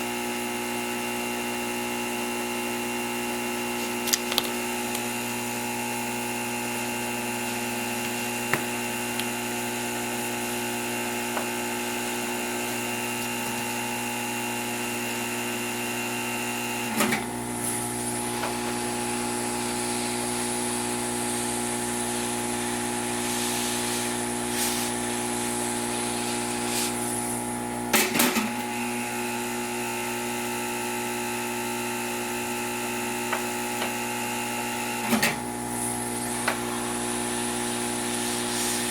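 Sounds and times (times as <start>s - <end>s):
hot air blower humming: 1.8s - 38.9s.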